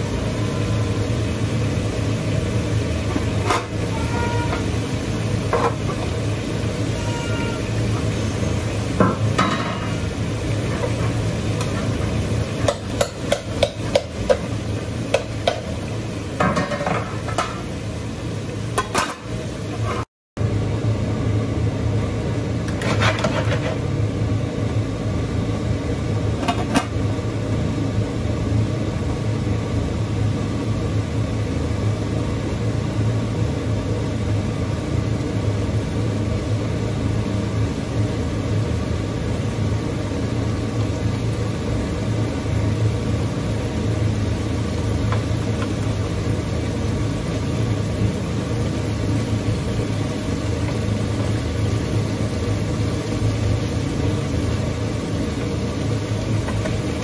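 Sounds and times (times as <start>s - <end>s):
meat frying in a pan: 0.0s - 57.0s.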